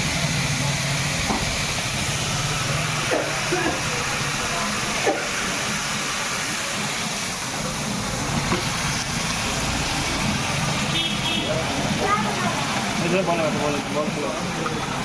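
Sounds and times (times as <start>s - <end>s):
steady hissing noise: 0.0s - 15.0s.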